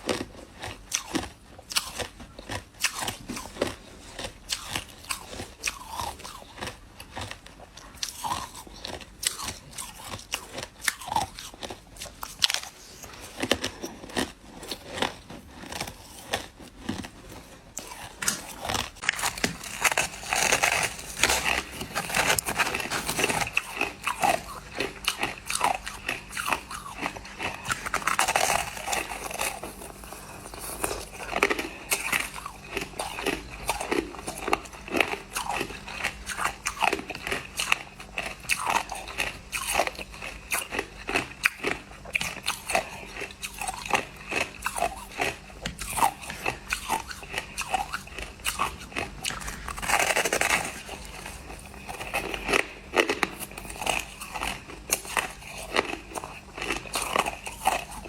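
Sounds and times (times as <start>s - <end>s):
person chewing crushed ice: 0.0s - 58.0s.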